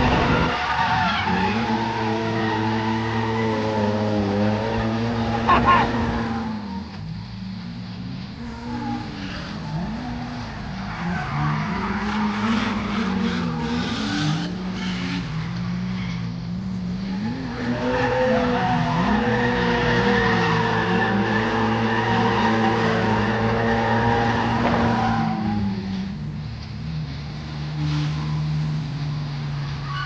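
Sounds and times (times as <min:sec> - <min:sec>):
tyres squealing and skidding: 0:00.0 - 0:07.7, 0:08.4 - 0:30.0
car engines revving: 0:00.0 - 0:30.0.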